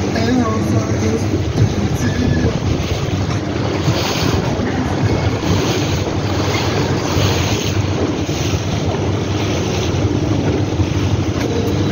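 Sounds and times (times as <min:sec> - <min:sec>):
boat engine droning: 0:00.0 - 0:11.9
rushing water: 0:00.0 - 0:11.9
wind on microphone: 0:00.0 - 0:11.9.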